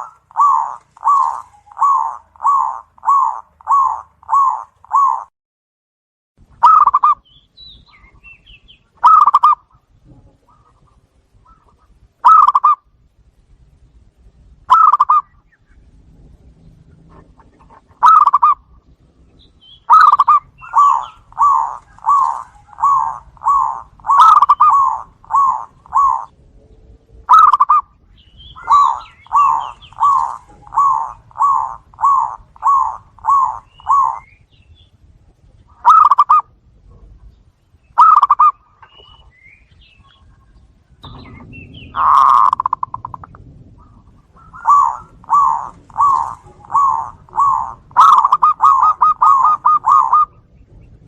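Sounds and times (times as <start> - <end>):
doves cooing: 0.0 - 5.3, 6.6 - 7.2, 9.0 - 12.9, 14.7 - 16.0, 16.7 - 18.8, 19.4 - 34.4, 35.7 - 37.3, 38.0 - 51.0.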